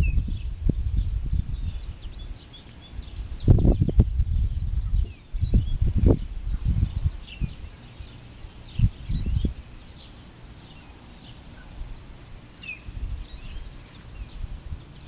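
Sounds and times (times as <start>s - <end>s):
wild birds chirping: 0.0s - 15.0s.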